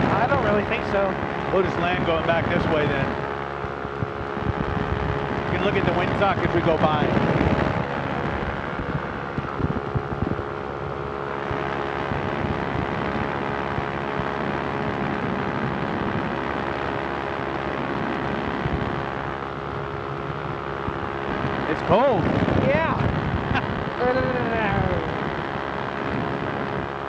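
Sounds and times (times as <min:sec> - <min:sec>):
aircraft engine droning: 0:00.0 - 0:27.0
wind rushing past microphone: 0:00.0 - 0:27.0.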